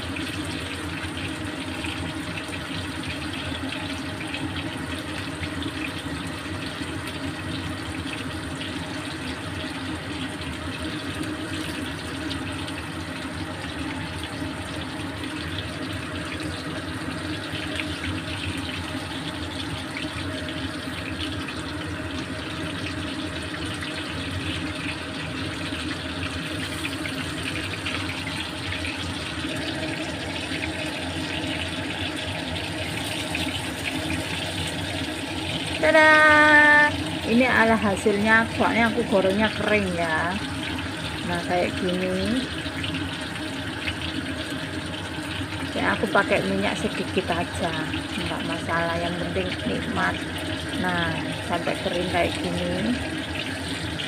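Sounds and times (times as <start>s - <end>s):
meat sizzling in a wok: 0.0s - 54.0s.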